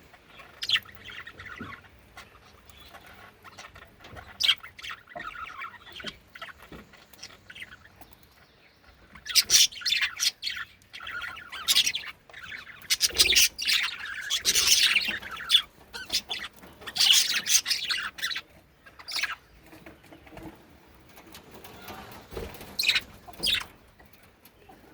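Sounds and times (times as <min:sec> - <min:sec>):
budgerigars chirping: 0:00.1 - 0:20.3, 0:21.6 - 0:23.8.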